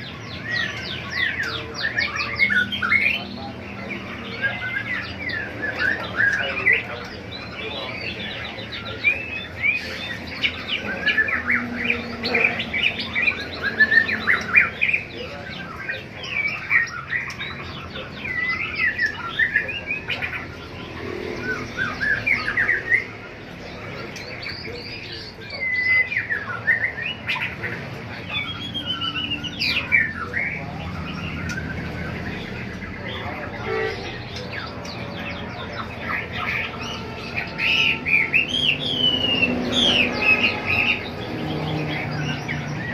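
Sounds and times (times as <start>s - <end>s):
caged songbirds chirping and trilling: 0.0s - 42.9s.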